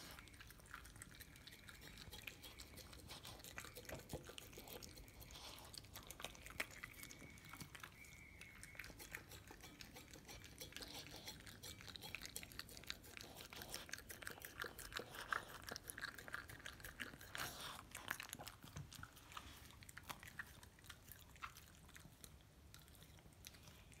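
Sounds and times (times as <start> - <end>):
dog chewing and licking: 0.0 - 24.0.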